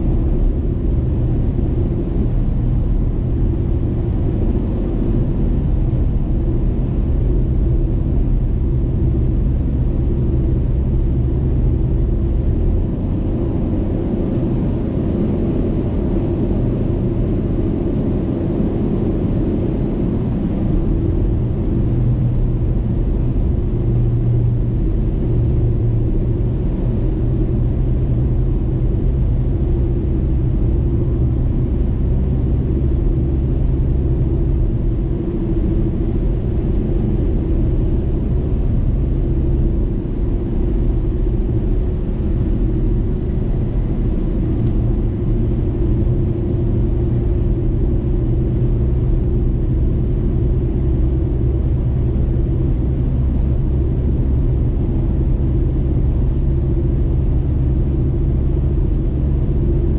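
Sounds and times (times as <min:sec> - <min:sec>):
car cabin road rumble: 0:00.0 - 0:59.9.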